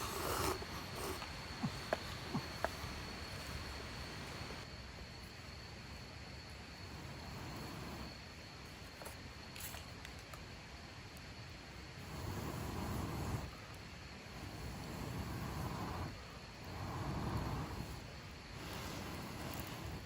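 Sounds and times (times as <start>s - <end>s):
insect high-pitched calling: 0.0s - 10.0s, 12.0s - 20.0s.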